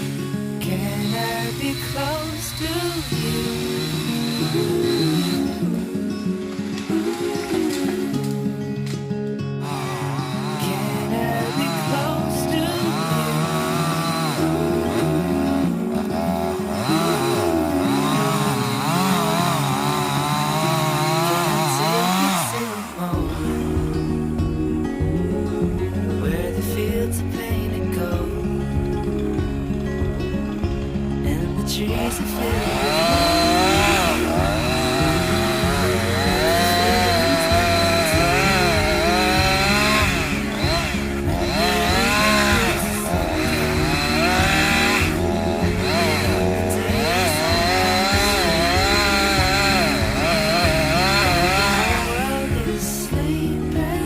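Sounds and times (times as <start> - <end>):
chainsaw engine revving: 0.0 - 8.9, 9.6 - 54.0
background music: 0.0 - 54.0
song playing: 0.0 - 54.0.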